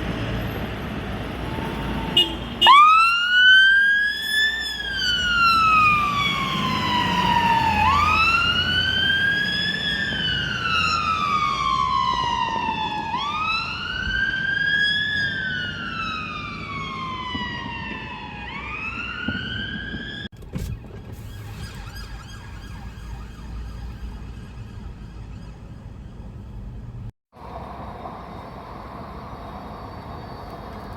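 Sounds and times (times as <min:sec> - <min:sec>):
street noise: 0:00.0 - 0:30.9
fire engine siren wailing: 0:01.0 - 0:27.0.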